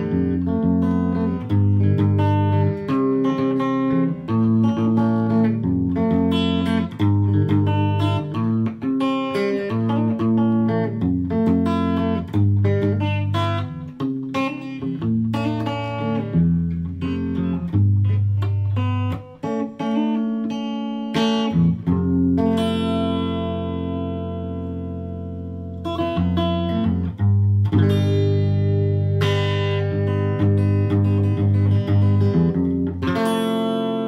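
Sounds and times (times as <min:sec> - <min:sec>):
electric guitar playing: 0:00.0 - 0:34.0.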